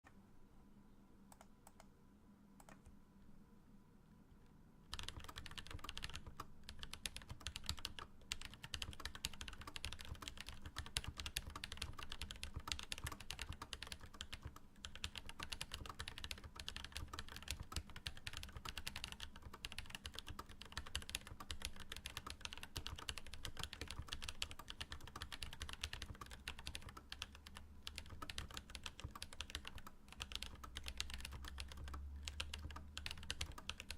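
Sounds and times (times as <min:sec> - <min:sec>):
fast typing on mechanical keyboard: 0:04.9 - 0:33.9.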